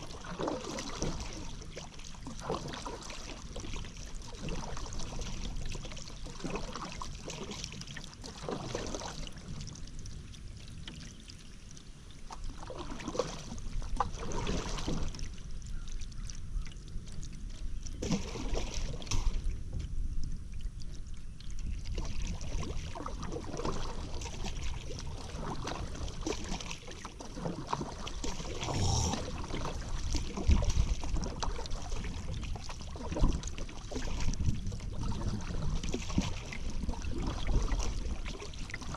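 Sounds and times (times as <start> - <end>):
paddle strokes splashing in water: 0.0 - 19.9, 20.8 - 38.9
water running off paddle blade: 0.0 - 38.9.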